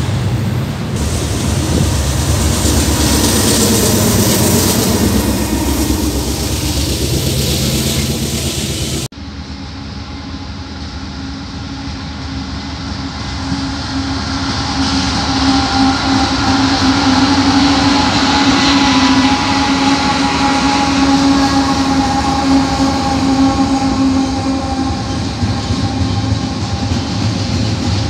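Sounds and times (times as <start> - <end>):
diesel locomotives passing: 0.0 - 28.0.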